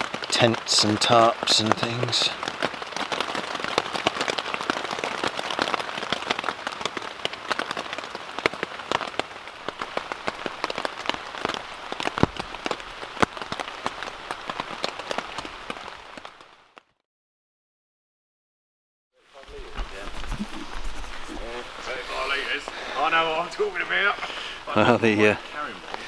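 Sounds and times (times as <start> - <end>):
rain pattering on tent: 0.0 - 17.0, 19.2 - 26.0.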